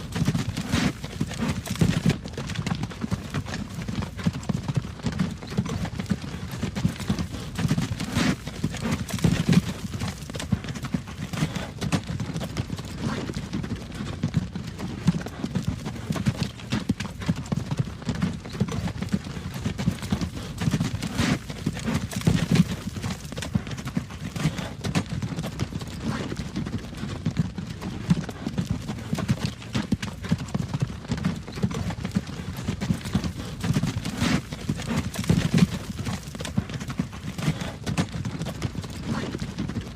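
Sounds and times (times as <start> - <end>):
wagon wheels rumbling: 0.0 - 39.7
hooves clip-clopping: 0.0 - 39.9.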